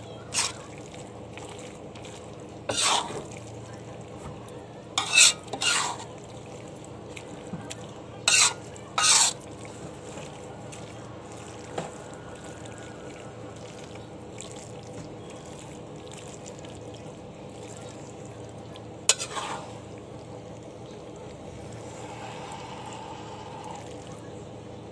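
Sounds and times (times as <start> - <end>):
food sizzling in a pan: 0.0 - 4.0, 4.9 - 24.3.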